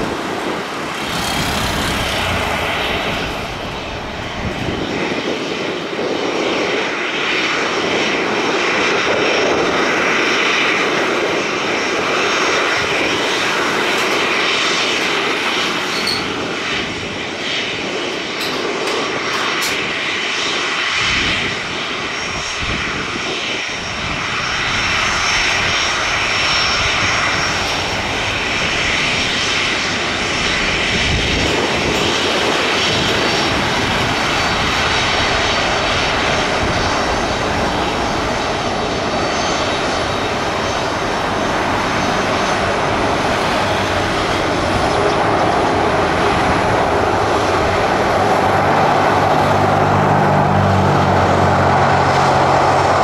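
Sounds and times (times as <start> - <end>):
jet engines whining and roaring: 0.0 - 53.0.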